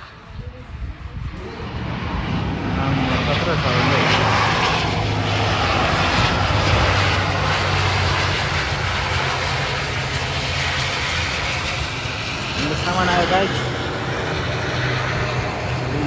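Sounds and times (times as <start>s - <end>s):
airplane engines running: 0.0s - 16.0s.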